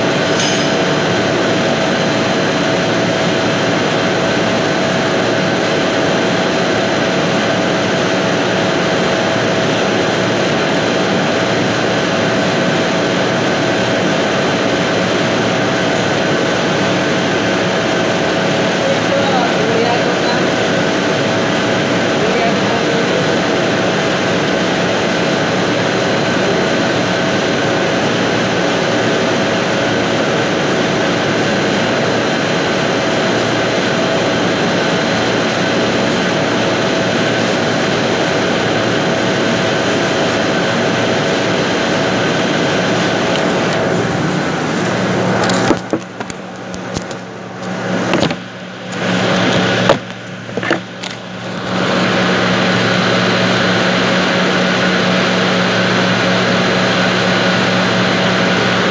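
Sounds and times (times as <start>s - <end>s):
factory machinery drone: 0.0s - 58.9s.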